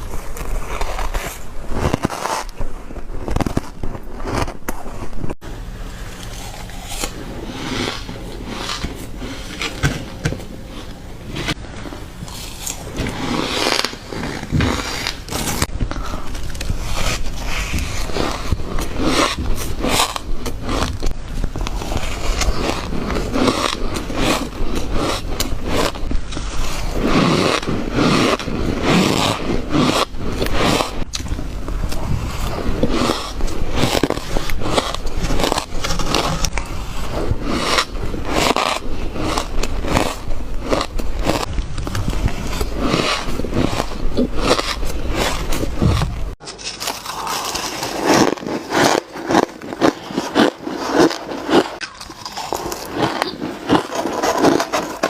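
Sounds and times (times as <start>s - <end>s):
ice crunching while chewed: 0.0s - 5.1s, 6.1s - 55.0s.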